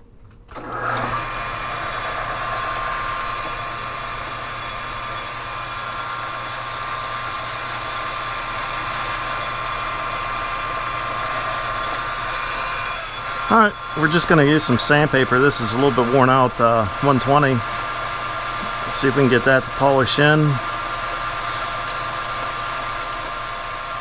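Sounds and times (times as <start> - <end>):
motor hum: 0.2 - 24.0
gear whine: 0.5 - 24.0
metal lathe running: 0.5 - 24.0.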